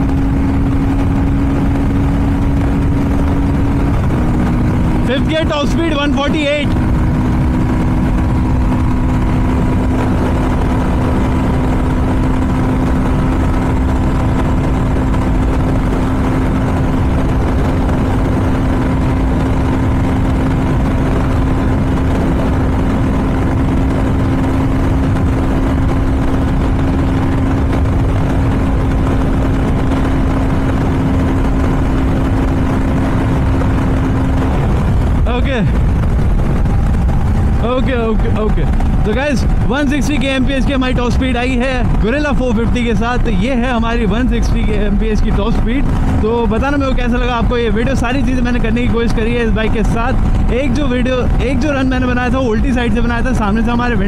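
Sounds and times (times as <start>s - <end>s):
motorcycle engine at full throttle: 0.0s - 54.0s
wind rush on microphone: 0.0s - 54.0s.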